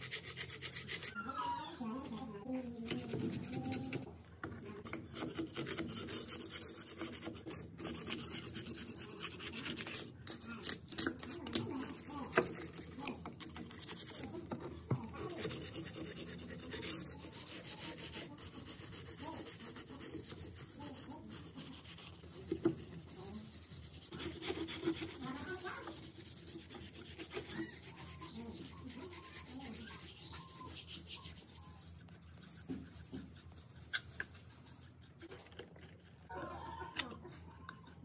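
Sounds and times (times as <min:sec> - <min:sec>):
screwdriver scraping rusty metal: 0:00.0 - 0:01.2, 0:04.8 - 0:36.0.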